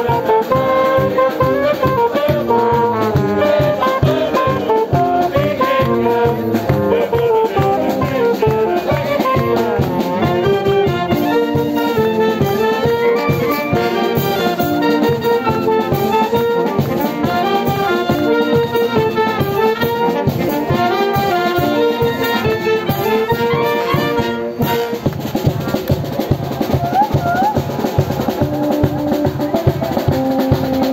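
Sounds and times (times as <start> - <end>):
snare and bass drum beat: 0.0 - 30.9
wind band playing: 0.0 - 30.9.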